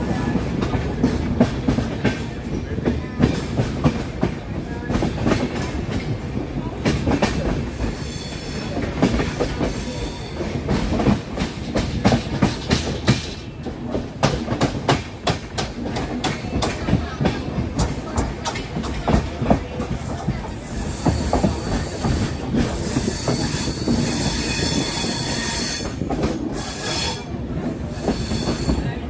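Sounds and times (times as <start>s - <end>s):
wheels clicking over rail joints: 0.4s - 25.0s.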